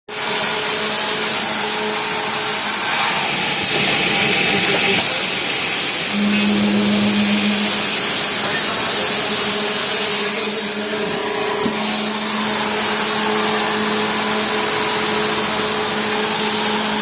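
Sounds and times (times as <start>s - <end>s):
high machine whine: 0.1s - 17.0s
machine mechanical noise: 0.1s - 17.0s
low hum: 0.2s - 17.0s.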